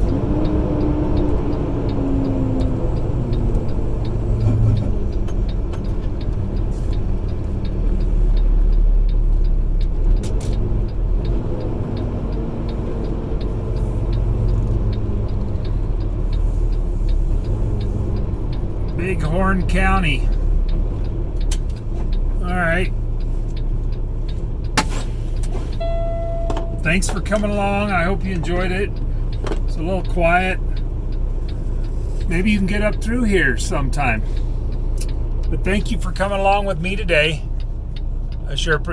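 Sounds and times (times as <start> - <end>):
faint light ticking: 0.0 - 38.9
road noise: 0.0 - 38.9
truck engine running: 0.0 - 38.9.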